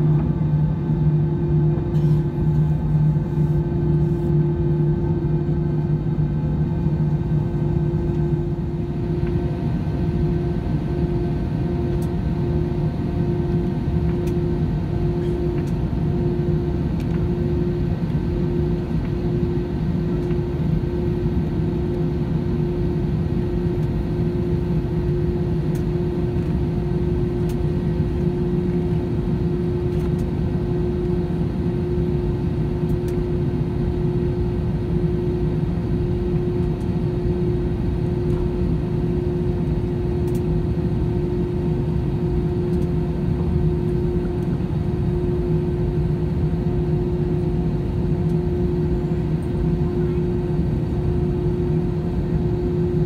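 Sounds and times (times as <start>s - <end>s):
jet engine drone in cabin: 0.0s - 53.0s.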